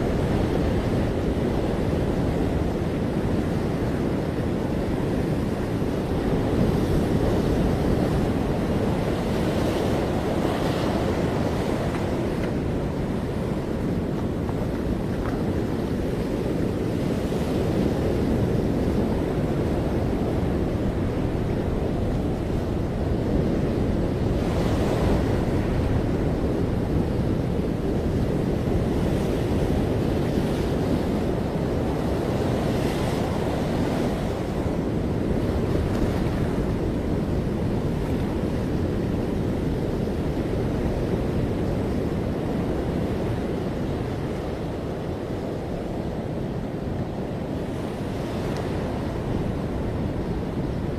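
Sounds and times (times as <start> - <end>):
ocean waves breaking on beach: 0.0 - 50.9.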